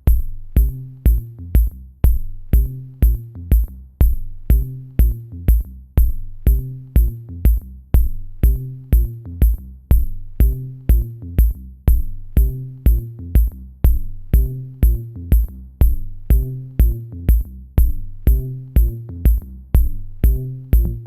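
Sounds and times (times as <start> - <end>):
electronic music with drum beat: 0.0 - 21.0.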